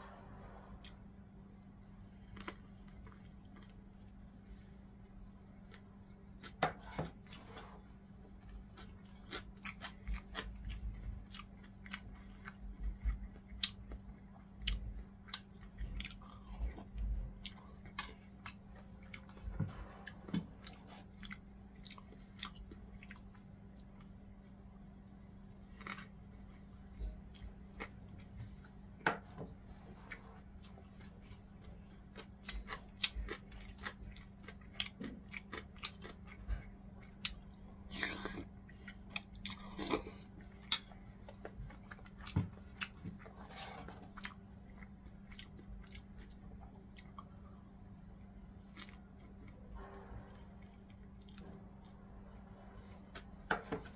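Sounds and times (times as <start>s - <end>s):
chewing food: 0.0s - 53.9s
steady low hum: 0.0s - 53.9s.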